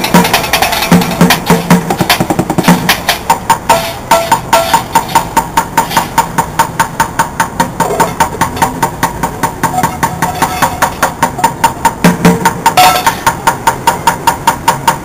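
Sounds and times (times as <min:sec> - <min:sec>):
bucket drumming: 0:00.0 - 0:15.0.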